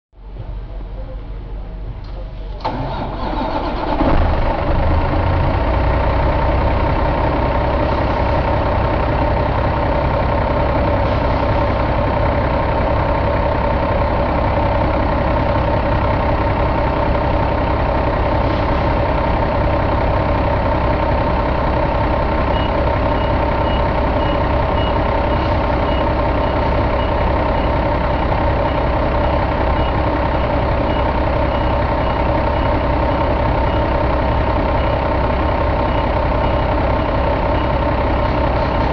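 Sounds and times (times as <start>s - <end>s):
diesel engine idling: 0.2s - 38.9s.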